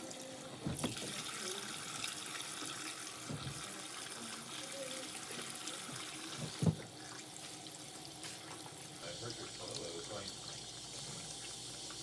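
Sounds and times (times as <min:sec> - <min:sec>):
water running into a tub: 0:00.0 - 0:12.0.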